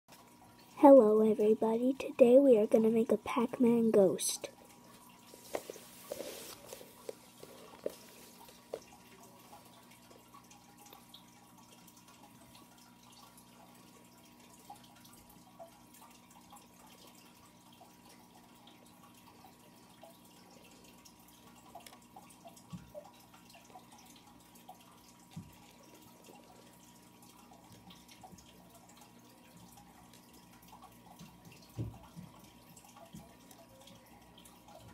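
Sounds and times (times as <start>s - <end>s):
faint hum with high tone: 0.1s - 34.9s.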